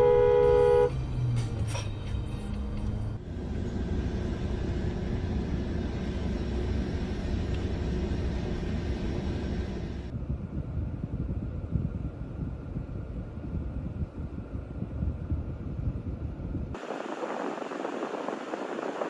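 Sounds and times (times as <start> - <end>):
moving vehicle rumble: 0.0 - 19.0
road noise: 0.0 - 19.0.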